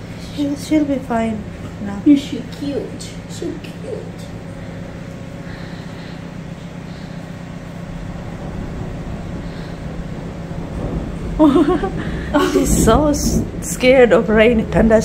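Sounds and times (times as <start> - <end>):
low rumble and hum: 0.0 - 15.0
steady hiss: 2.2 - 15.0.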